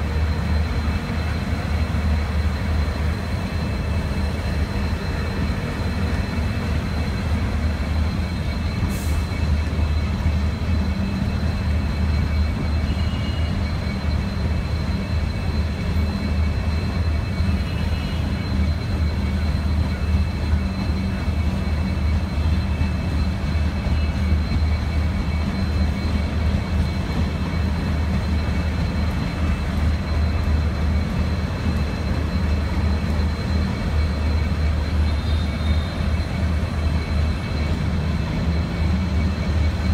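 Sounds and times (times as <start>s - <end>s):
locomotive idling: 0.0s - 39.9s.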